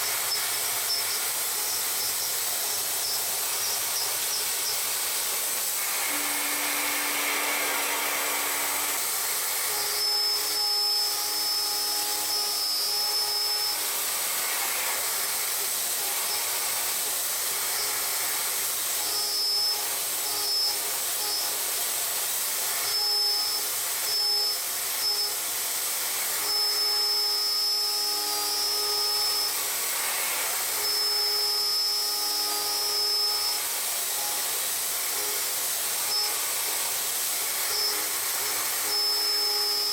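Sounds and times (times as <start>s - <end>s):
high machine whine: 0.0s - 39.9s
machine hiss: 0.0s - 39.9s.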